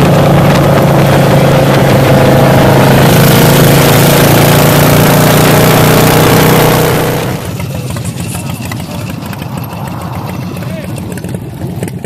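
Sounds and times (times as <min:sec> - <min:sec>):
motorcycle engine hum: 0:00.0 - 0:12.0.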